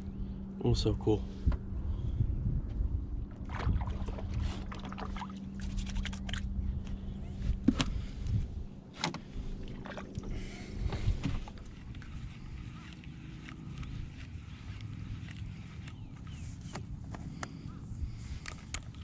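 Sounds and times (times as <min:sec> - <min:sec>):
steady low hum: 0:00.0 - 0:19.0
wind on microphone: 0:01.2 - 0:19.0.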